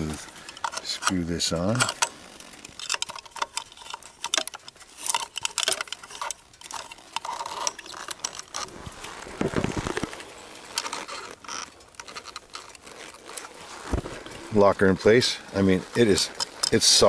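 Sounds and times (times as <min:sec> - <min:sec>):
small plastic clicks and rattles: 0:00.0 - 0:14.4.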